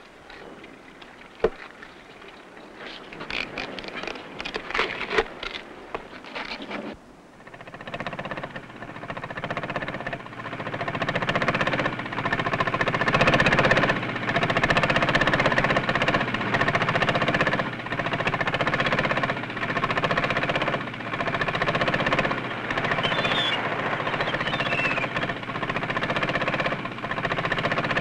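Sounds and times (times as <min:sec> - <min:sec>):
boat engine chugging: 0:00.0 - 0:28.0.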